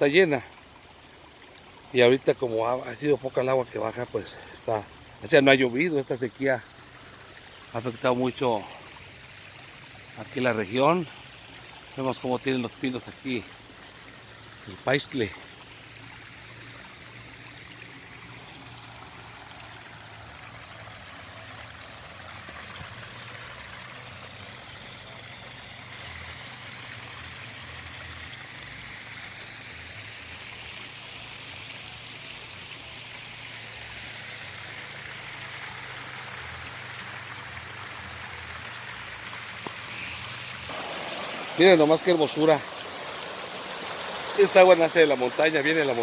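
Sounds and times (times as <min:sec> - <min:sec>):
water rushing down rocky channel: 0:01.8 - 0:46.0.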